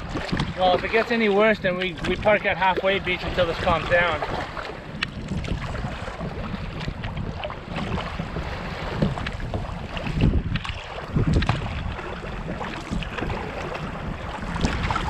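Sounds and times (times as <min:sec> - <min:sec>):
water splashing against boat: 0:00.0 - 0:15.0
wind buffeting microphone: 0:00.0 - 0:15.0.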